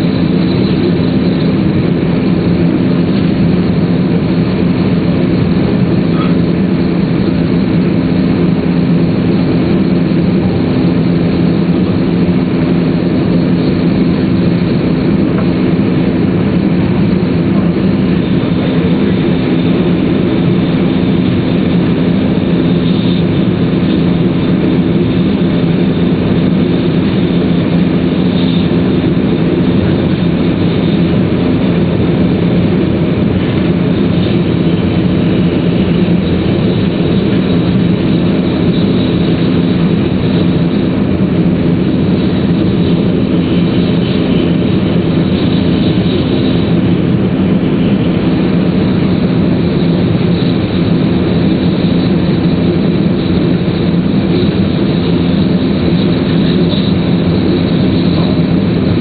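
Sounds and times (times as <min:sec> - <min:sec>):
steady low hum: 0:00.0 - 0:59.0
thin high whine: 0:00.0 - 0:59.0.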